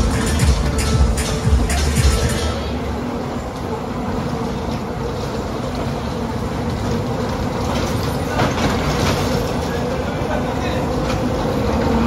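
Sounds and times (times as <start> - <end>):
bumper cars rolling on metal floor: 0.0 - 12.0.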